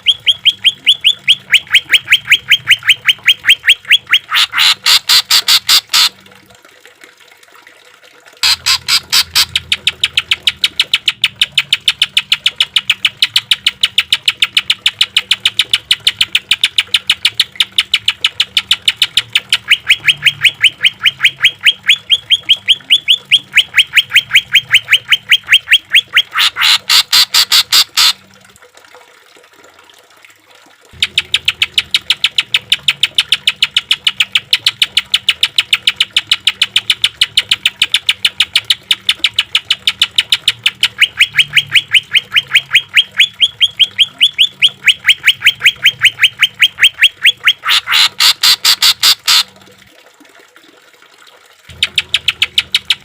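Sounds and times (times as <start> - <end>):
bird singing harsh rapid notes: 0.0 - 6.1, 8.4 - 28.1, 31.0 - 49.4.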